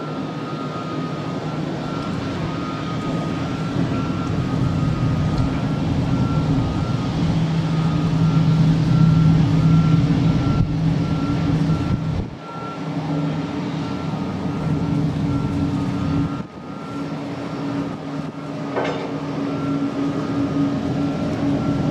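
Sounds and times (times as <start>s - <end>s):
boat engines droning: 0.0s - 21.9s.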